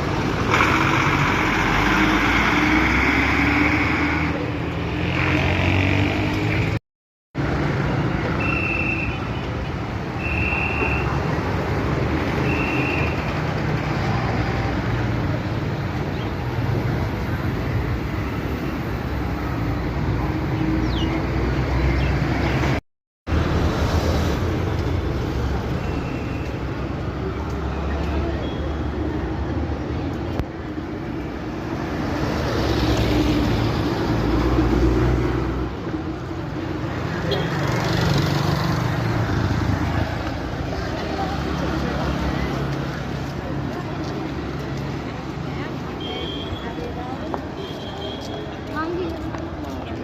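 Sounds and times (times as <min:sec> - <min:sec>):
road traffic rumble: 0:00.0 - 0:06.8, 0:07.4 - 0:50.0.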